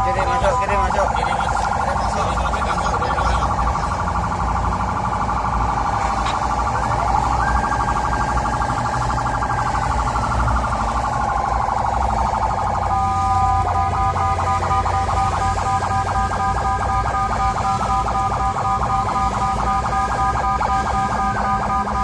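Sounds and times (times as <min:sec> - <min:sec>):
sweeping siren tone: 0:00.0 - 0:22.0
warbling siren: 0:00.0 - 0:22.0.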